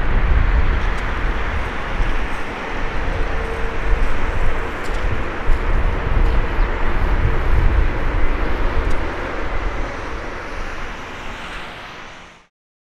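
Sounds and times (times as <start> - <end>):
jet engines rumbling: 0.0 - 12.5.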